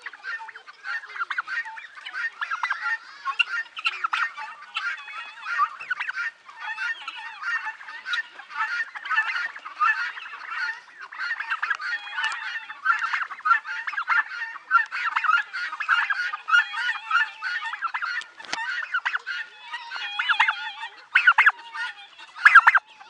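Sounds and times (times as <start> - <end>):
guineafowl calling: 0.0 - 23.0.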